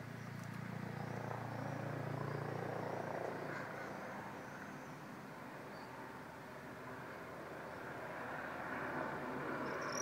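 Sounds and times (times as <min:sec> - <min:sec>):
distant engine drone: 0:00.0 - 0:10.0.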